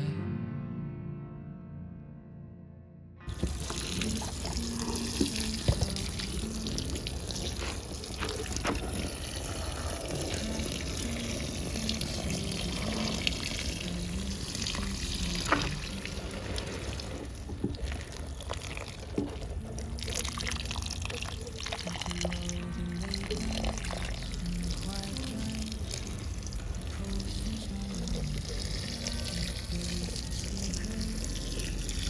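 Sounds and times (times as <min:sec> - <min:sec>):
water running: 0:03.3 - 0:32.0.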